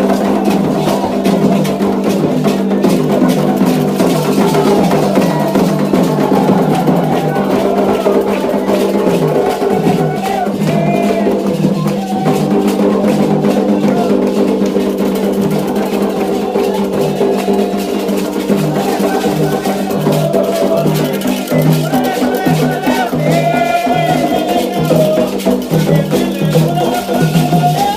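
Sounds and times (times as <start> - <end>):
hand drums: 0.0 - 27.9.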